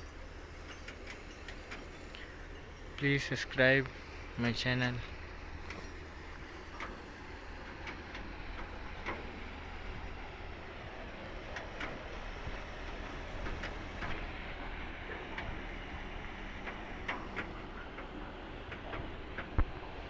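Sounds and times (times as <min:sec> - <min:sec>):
light clicks and rattles: 0:00.0 - 0:04.0, 0:04.8 - 0:10.2, 0:11.0 - 0:20.0
truck engine humming: 0:00.0 - 0:20.0.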